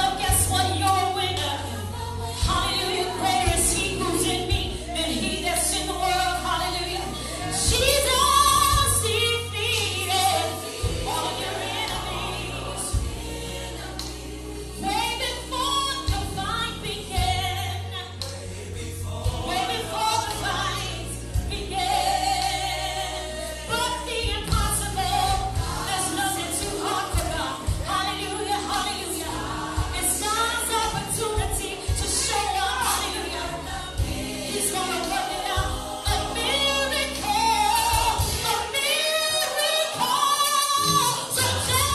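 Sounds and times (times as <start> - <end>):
bass line: 0.0 - 38.6
gospel choir singing: 0.0 - 41.9.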